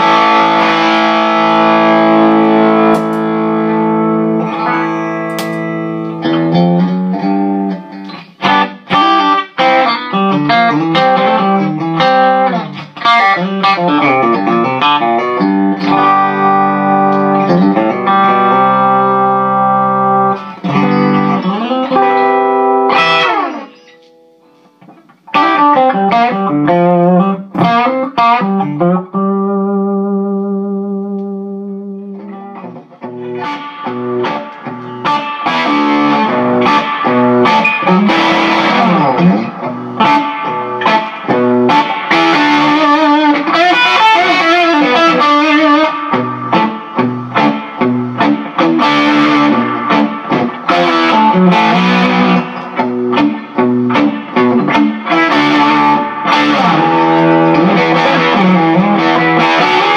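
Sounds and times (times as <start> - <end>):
electric guitar playing: 0.0 - 59.9.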